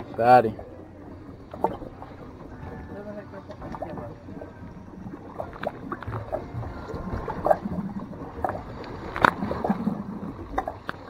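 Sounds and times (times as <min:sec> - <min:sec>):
water washing against hull: 0:00.0 - 0:11.0.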